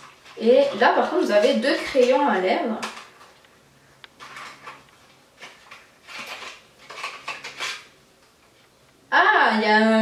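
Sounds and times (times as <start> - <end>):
packaging clicks and rustles: 0.0 - 8.4.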